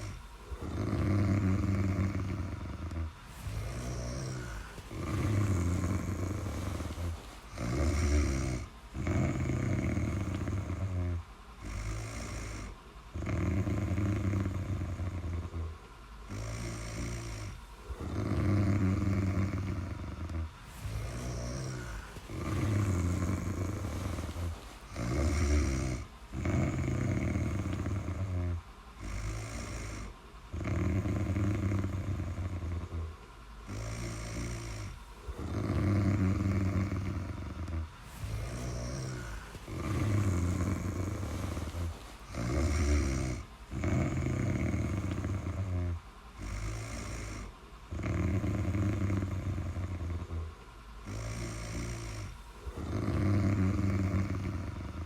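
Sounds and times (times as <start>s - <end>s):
person snoring: 0.0s - 55.0s.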